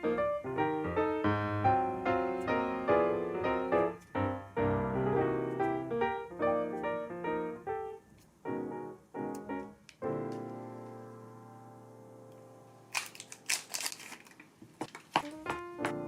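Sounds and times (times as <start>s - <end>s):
light piano melody: 0.0s - 14.0s, 15.1s - 16.0s.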